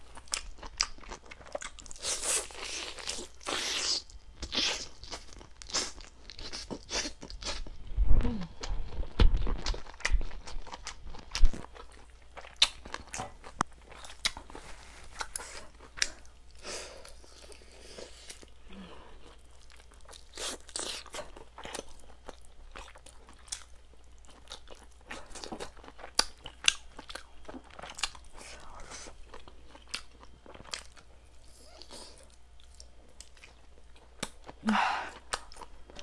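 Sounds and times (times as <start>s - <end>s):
chewing and crunching: 0.0s - 7.8s, 8.6s - 36.0s.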